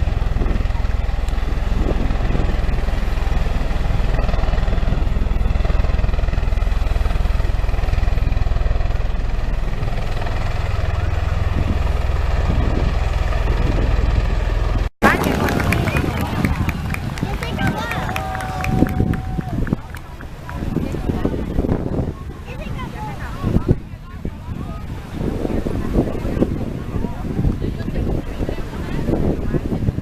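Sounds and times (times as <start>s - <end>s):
faint engine whine: 0.0s - 25.1s
jet engine rumble: 0.0s - 30.0s.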